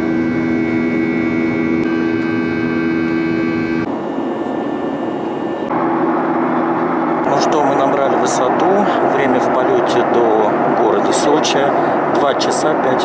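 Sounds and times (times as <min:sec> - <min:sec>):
jet engine hum: 0:00.0 - 0:13.0.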